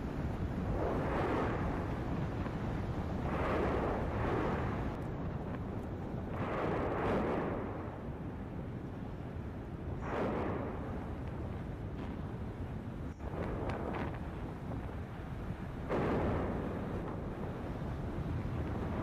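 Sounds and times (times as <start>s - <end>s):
volcano rumbling: 0.0s - 19.0s.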